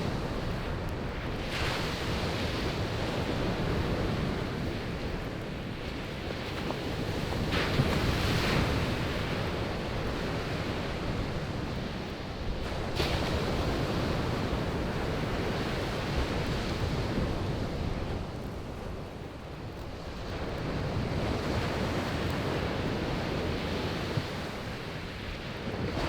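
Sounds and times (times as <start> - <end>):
sea waves washing onto beach: 0.0 - 26.0.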